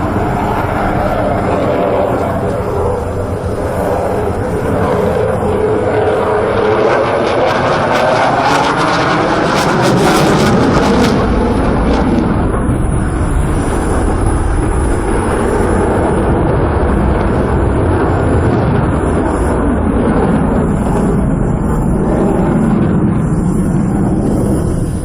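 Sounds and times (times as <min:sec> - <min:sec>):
fighter jet passing low: 0:00.0 - 0:25.0.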